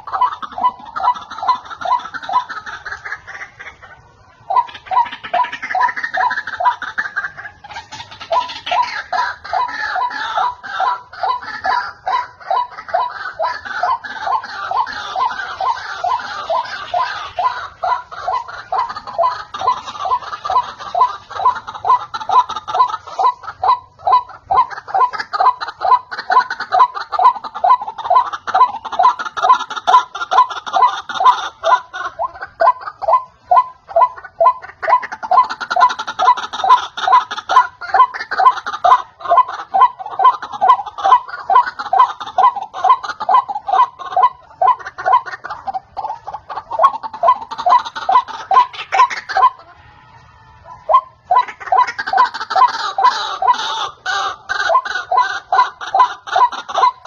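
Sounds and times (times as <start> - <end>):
waterhens croaking: 0.0 - 57.0.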